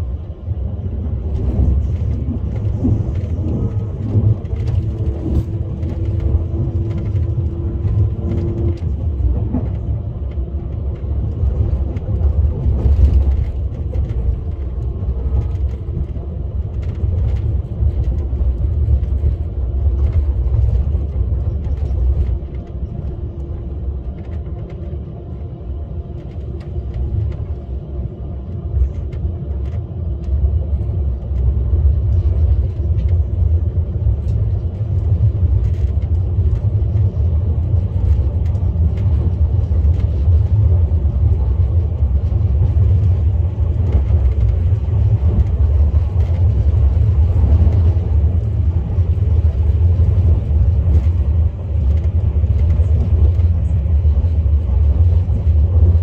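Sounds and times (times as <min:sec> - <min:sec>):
high-speed train rumbling: 0:00.0 - 0:56.0.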